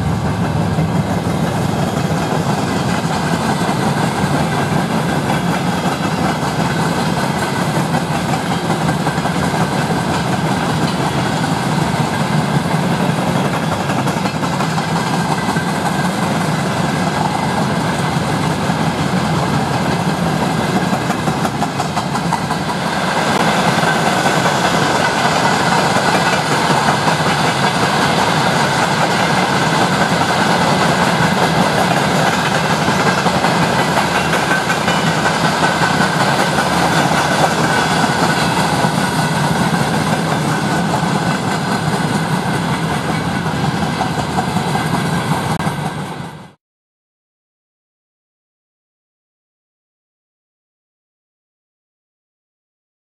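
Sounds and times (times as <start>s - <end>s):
train wheels rumbling on rails: 0.0s - 46.6s.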